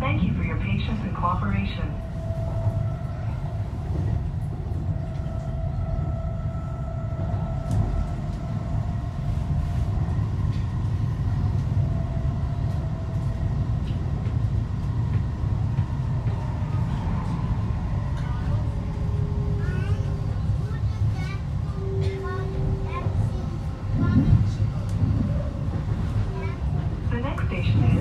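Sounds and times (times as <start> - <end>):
train car rumbling: 0.0 - 28.0.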